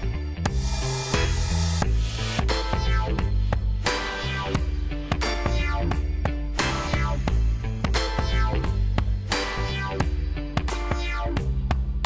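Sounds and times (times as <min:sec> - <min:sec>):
bass: 0:00.0 - 0:12.0
guitar: 0:00.0 - 0:12.0
drum machine beat: 0:00.4 - 0:12.0.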